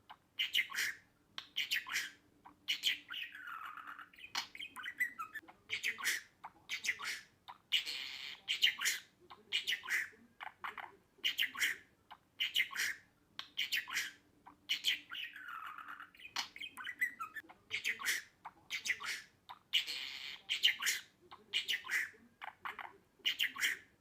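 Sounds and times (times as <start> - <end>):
budgerigar chattering: 0.1 - 24.0.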